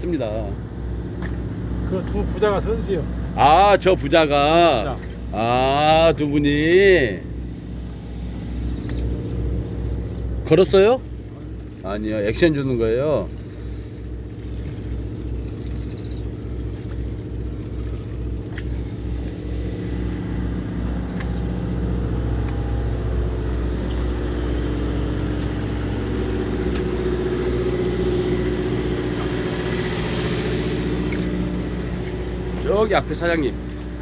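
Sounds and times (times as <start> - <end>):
boat engine throbbing: 0.0 - 34.0.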